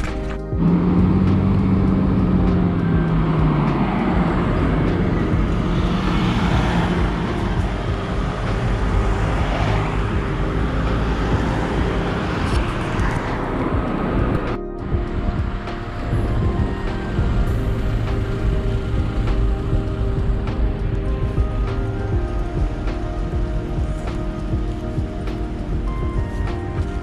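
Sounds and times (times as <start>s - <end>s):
cars driving past: 0.0s - 27.0s
low engine drone: 0.0s - 27.0s.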